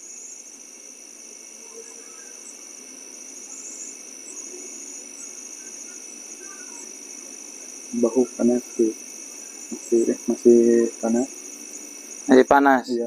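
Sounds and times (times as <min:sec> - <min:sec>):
night insects trilling: 0:00.0 - 0:13.0
short pulsed insect chirps: 0:00.0 - 0:13.0.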